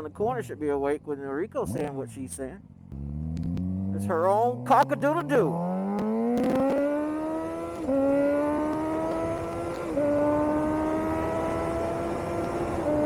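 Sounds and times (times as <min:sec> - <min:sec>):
motorcycle engine accelerating: 0:01.4 - 0:13.0.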